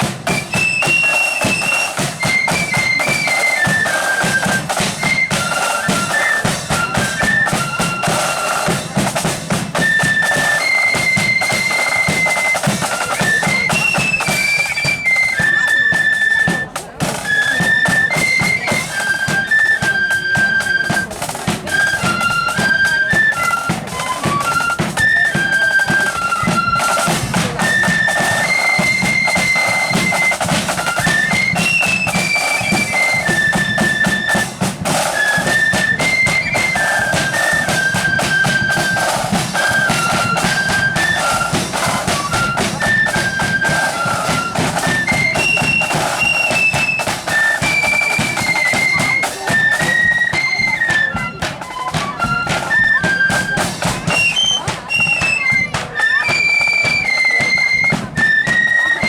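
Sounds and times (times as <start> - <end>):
flutes playing melody: 0.0 - 59.0
rapid snare drumming: 0.0 - 59.0.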